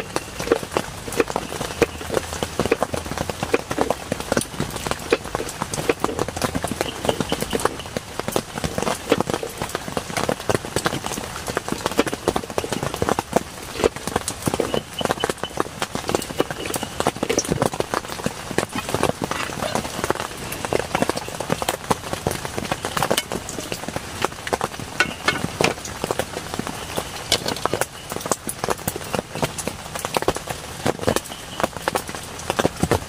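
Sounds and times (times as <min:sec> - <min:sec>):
heavy rain patter: 0:00.0 - 0:33.0.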